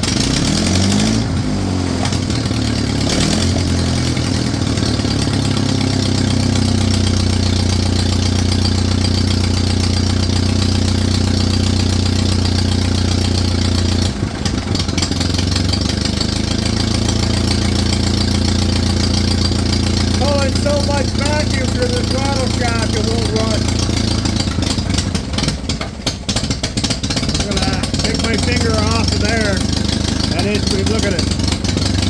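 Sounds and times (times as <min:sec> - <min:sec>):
loud tractor engine running: 0:00.0 - 0:32.0.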